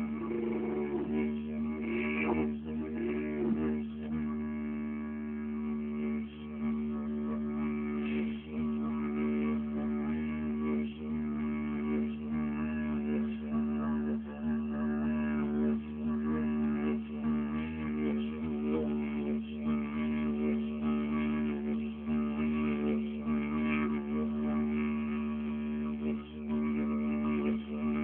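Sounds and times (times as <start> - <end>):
didgeridoo drone: 0.0 - 28.0.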